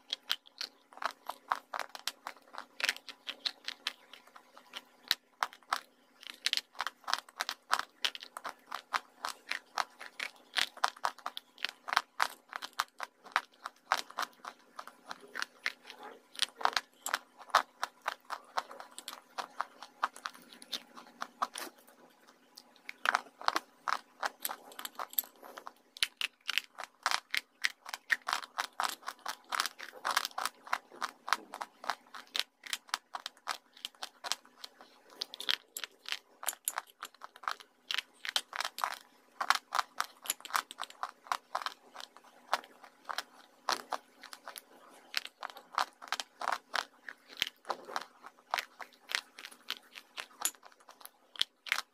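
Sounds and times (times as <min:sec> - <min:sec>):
crisp chewing crunches: 0:00.0 - 0:51.9.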